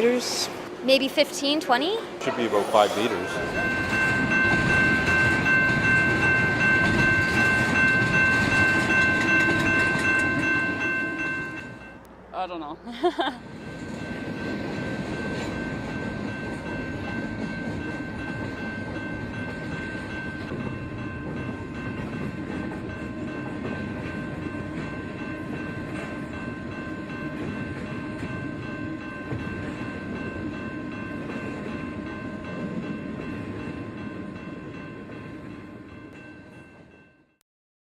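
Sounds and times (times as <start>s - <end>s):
train rumbling on tracks: 0.0s - 37.1s
steady high tones: 0.9s - 34.9s.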